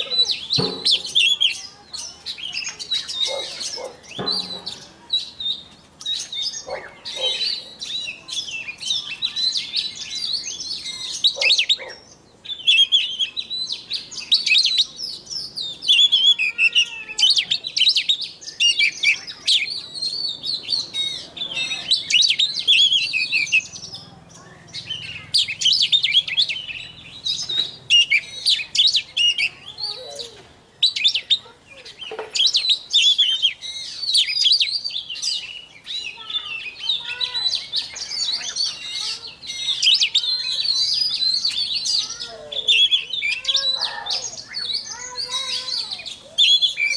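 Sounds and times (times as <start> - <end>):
bird singing varied high phrases: 0.0 - 46.9.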